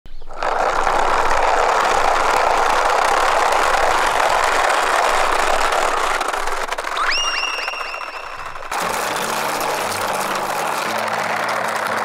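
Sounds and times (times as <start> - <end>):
plastic wheels rolling on asphalt: 0.1 - 12.0.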